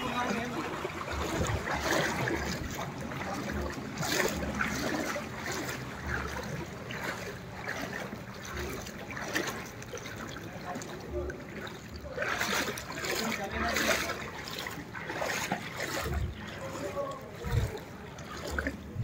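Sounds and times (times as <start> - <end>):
floodwater sloshing: 0.0 - 19.0.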